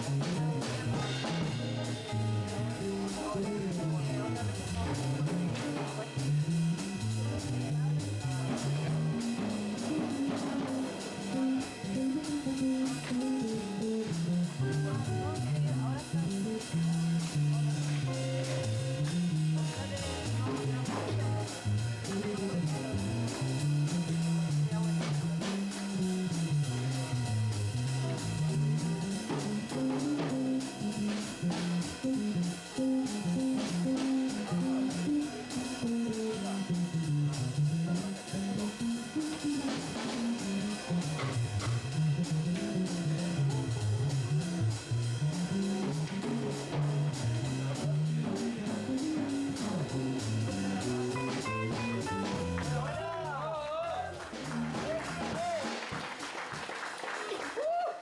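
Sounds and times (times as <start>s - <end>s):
cymbal and drum strokes: 0.0s - 56.3s
jazz guitar: 0.0s - 56.7s
bass: 0.0s - 58.0s.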